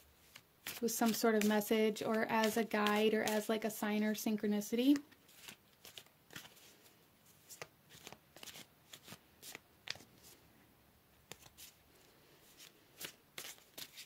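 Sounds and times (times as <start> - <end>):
cards being shuffled: 0.2 - 3.6, 4.8 - 10.4, 11.3 - 14.0.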